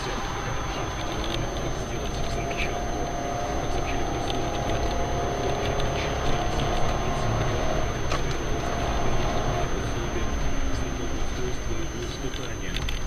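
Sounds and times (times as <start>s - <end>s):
road rumble: 0.0s - 13.0s
vehicle engine: 0.0s - 13.0s.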